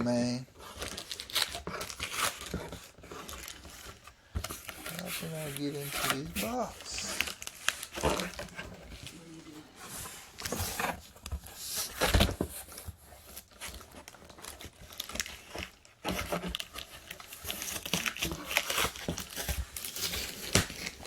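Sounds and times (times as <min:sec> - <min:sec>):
cardboard tearing and crinkling: 0:00.3 - 0:21.0.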